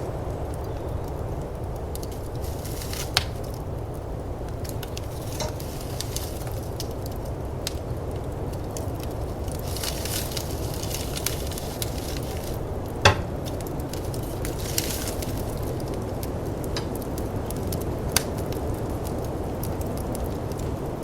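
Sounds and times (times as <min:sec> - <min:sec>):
snowstorm wind rumble: 0:00.0 - 0:21.0
wood fire crackling and popping: 0:00.0 - 0:21.0.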